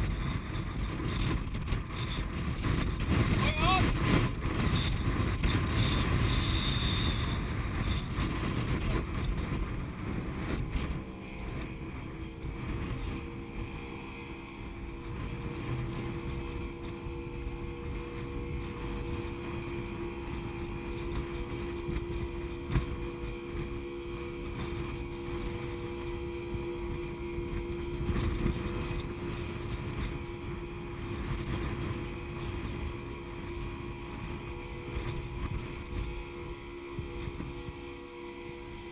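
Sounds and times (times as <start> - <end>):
boat engine running: 0.0 - 38.9
wind buffeting microphone: 0.0 - 38.9.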